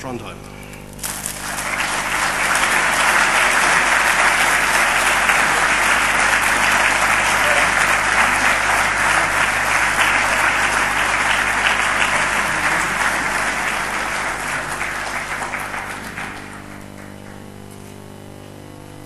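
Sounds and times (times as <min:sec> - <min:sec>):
low steady hum: 0:00.0 - 0:19.0
audience applauding: 0:01.0 - 0:18.0.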